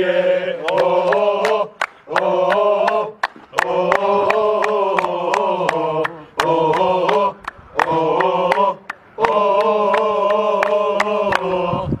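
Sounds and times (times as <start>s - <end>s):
men chanting in unison: 0.0s - 12.0s
hand claps: 0.6s - 11.5s.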